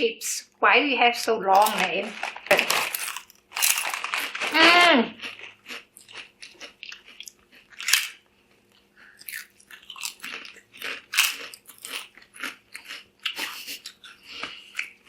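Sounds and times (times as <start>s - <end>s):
potato chips crunching: 1.5s - 15.0s.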